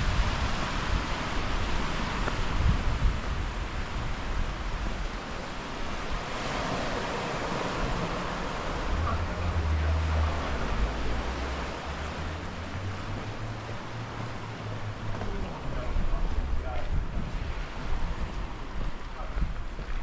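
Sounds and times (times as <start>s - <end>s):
sea waves on shore: 0.0s - 20.0s
wind buffeting microphone: 0.0s - 20.0s.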